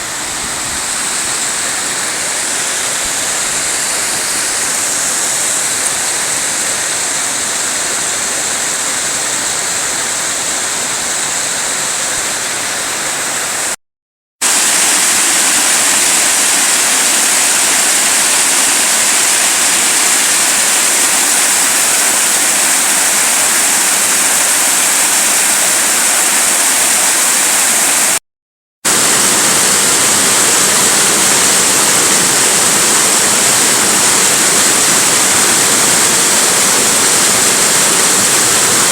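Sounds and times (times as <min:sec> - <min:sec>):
waterfall rushing: 0:00.0 - 0:13.8, 0:14.4 - 0:28.2, 0:28.9 - 0:38.9.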